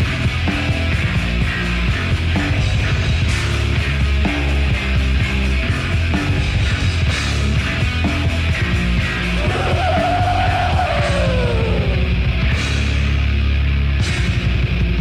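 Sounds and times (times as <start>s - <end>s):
death metal band playing live: 0.0s - 15.0s.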